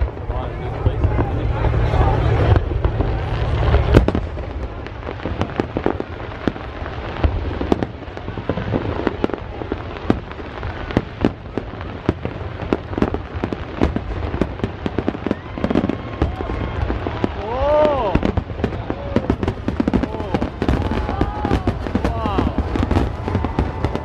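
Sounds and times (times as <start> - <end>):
firework bang: 0.0 - 24.0
fireworks popping and crackling: 0.0 - 24.0
low rumble: 0.0 - 24.0.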